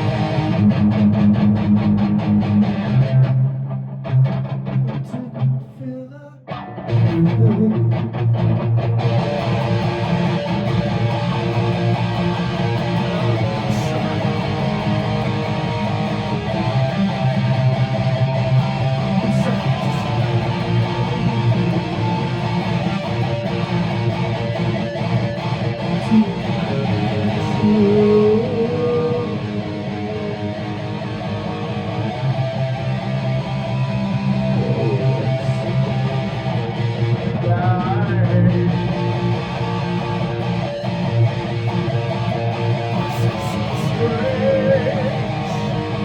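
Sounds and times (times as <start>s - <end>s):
guitar chords: 0.0s - 46.0s.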